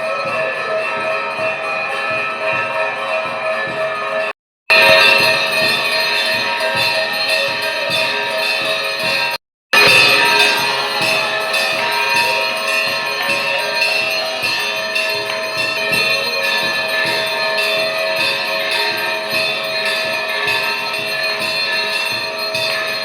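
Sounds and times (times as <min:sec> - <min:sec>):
temple bells ringing: 0:00.0 - 0:23.0.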